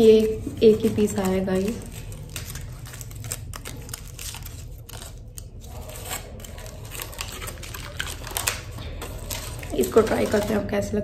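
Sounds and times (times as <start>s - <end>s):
foil packaging crinkling: 0.0s - 11.0s.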